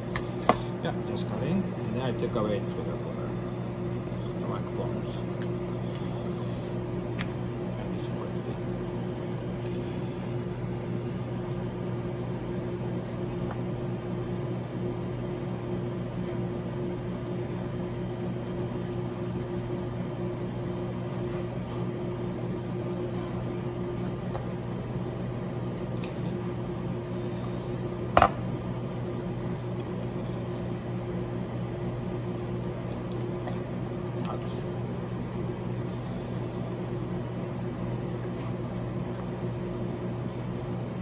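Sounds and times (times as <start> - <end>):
kitchen machine hum: 0.0 - 41.0.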